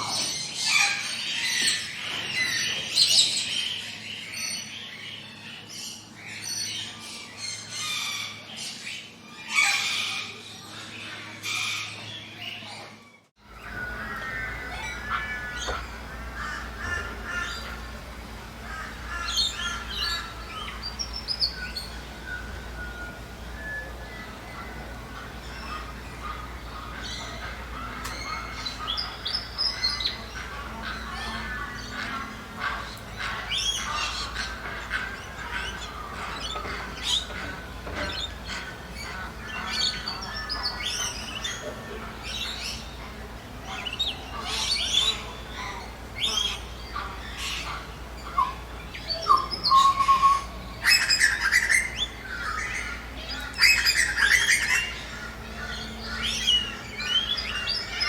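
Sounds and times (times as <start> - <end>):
birds chirping and whistling: 0.0 - 58.0.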